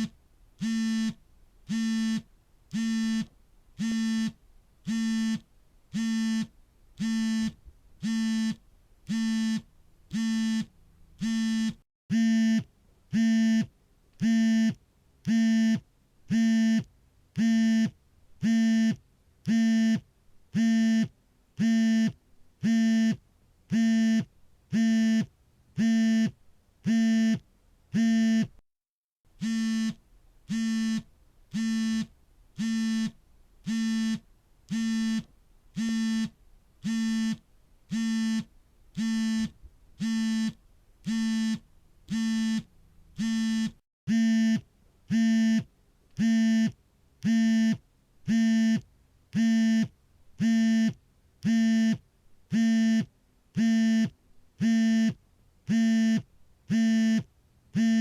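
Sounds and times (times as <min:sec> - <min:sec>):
phone vibrating: 0:00.0 - 0:20.0, 0:29.4 - 0:48.8, 0:49.4 - 0:58.0.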